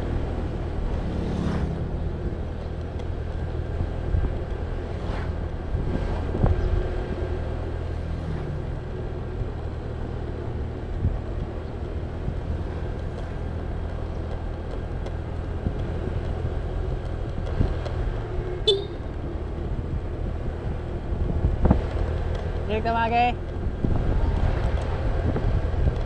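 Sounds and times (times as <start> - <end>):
wind and road noise: 0.0 - 26.0.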